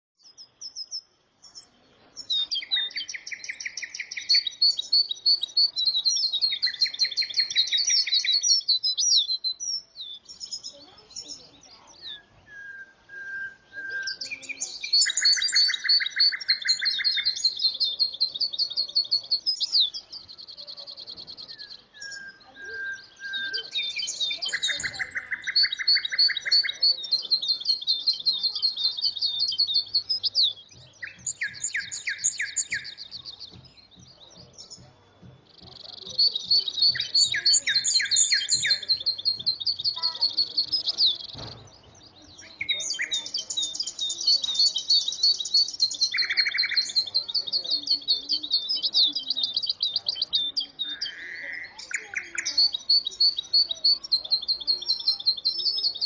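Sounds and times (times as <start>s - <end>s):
songbird singing trills: 0.2s - 56.0s.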